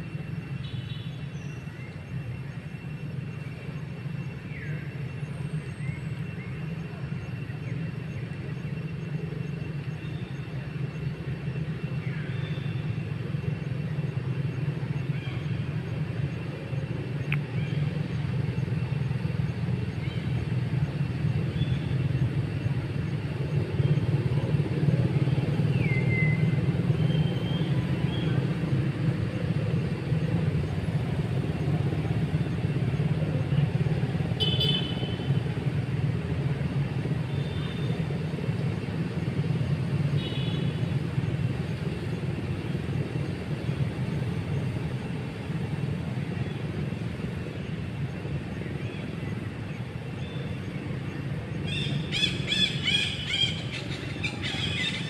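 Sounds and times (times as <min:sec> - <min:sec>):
low rumble of road traffic: 0:00.0 - 0:55.0.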